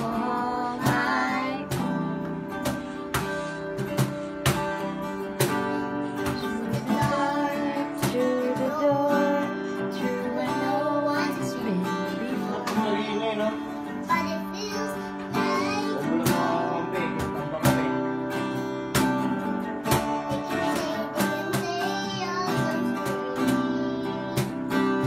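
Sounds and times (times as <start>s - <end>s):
person singing: 0.0s - 4.6s, 5.4s - 18.4s, 19.8s - 25.0s
acoustic guitar strumming: 0.0s - 25.0s.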